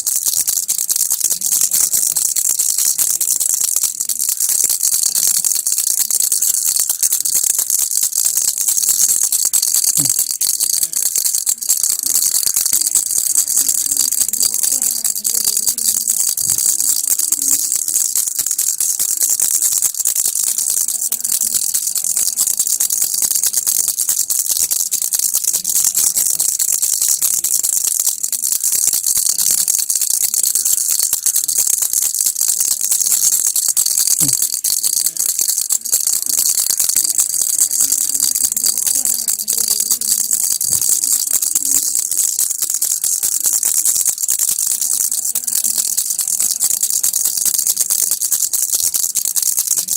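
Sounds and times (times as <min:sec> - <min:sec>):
baby rattle shaken: 0:00.0 - 0:49.9.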